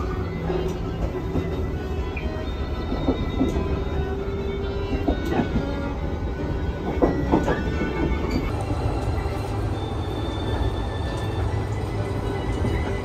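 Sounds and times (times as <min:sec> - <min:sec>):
background music: 0:00.0 - 0:13.0
train rumbling along rails: 0:00.0 - 0:13.0.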